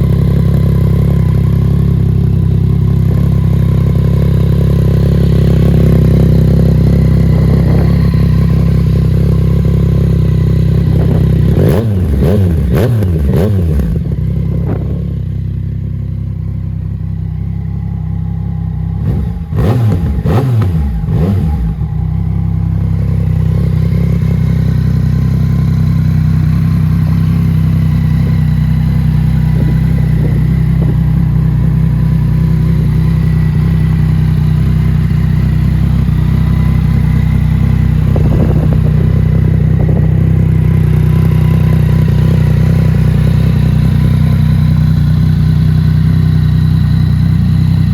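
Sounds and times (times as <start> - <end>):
motorcycle engine idling: 0.0 - 47.9
motorcycle throttle blips: 0.0 - 47.9.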